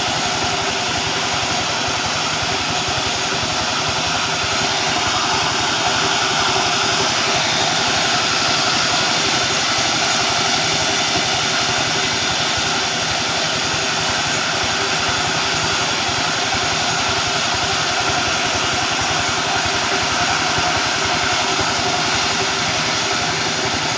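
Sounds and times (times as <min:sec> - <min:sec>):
sawmill engine running: 0:00.0 - 0:23.9.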